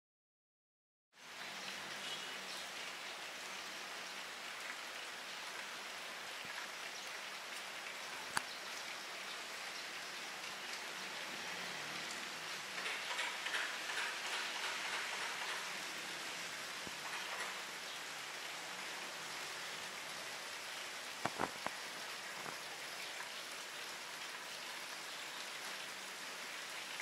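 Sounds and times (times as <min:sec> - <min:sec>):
rain pattering: 0:01.2 - 0:27.0.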